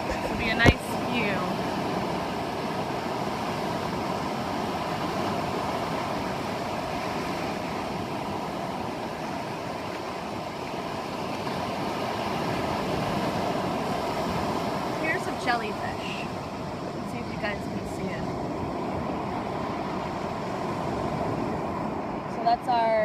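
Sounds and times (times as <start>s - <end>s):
surf rushing: 0.0s - 23.0s
wind: 0.0s - 23.0s.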